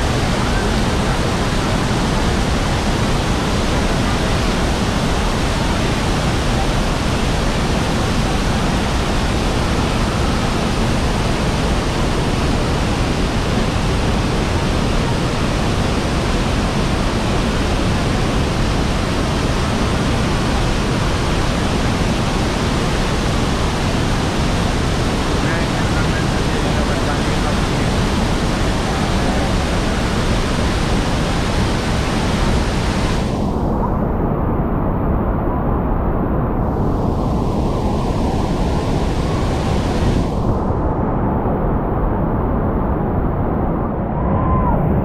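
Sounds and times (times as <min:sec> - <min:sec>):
waterfall rushing: 0:00.0 - 0:33.5, 0:36.7 - 0:40.4.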